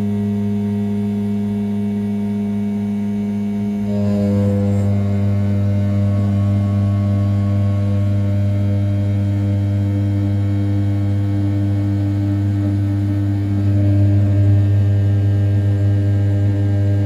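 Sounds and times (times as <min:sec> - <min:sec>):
cnc spindle milling aluminium hum: 0:00.0 - 0:17.0.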